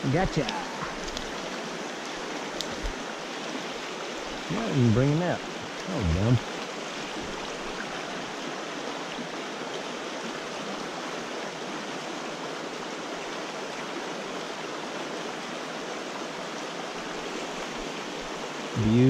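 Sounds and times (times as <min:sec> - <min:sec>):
creek rushing over boulders: 0:00.0 - 0:19.0.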